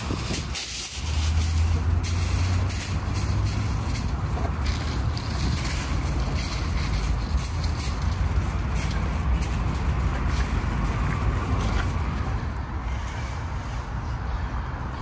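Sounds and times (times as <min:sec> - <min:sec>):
light clicks and rustles: 0:00.0 - 0:12.4
low outdoor rumble: 0:00.0 - 0:15.0.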